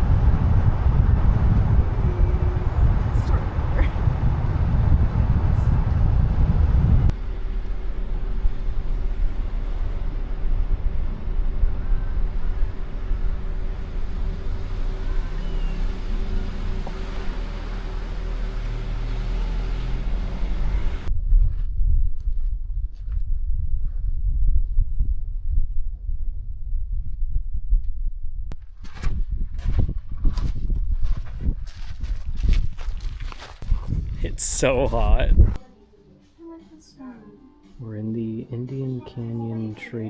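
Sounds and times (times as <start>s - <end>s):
vehicle and road rumble: 0.0s - 35.6s.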